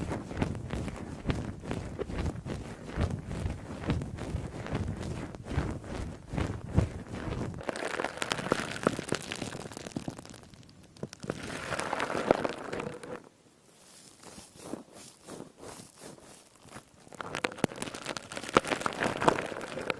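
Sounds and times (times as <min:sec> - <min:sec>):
wet sponge squeezed crackling: 0:00.0 - 0:19.9.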